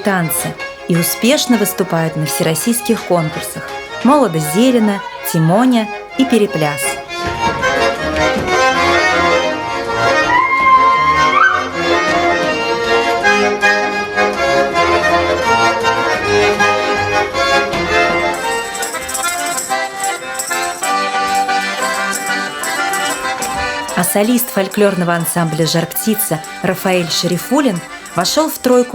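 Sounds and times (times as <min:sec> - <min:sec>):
folk music on accordion: 0:00.0 - 0:28.9.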